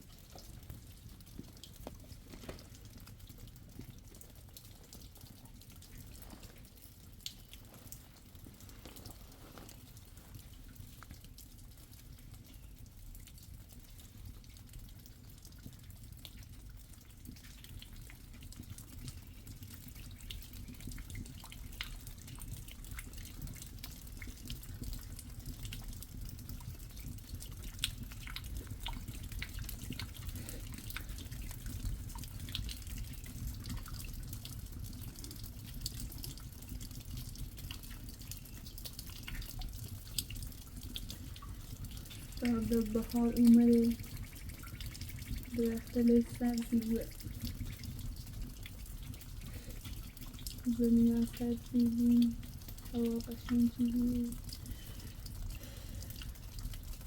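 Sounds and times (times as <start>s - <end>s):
water dripping: 0.0s - 57.0s.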